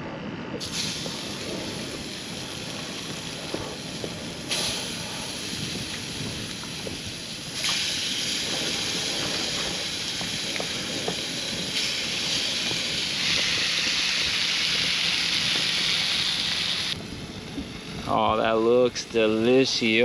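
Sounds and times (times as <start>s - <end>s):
fish sizzling in a frying pan: 0.6s - 17.0s.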